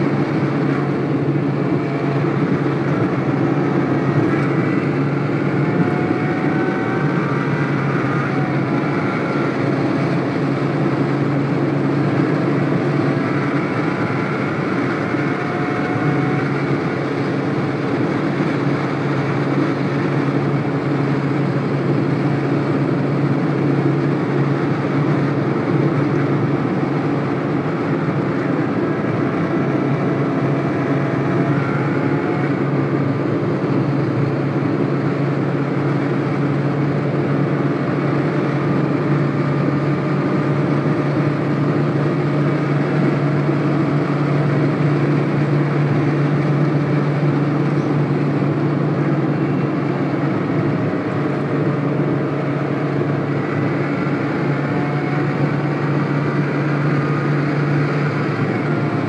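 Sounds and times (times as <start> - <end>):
car engine drone: 0.0 - 59.0
tyre and road rumble: 0.0 - 59.0.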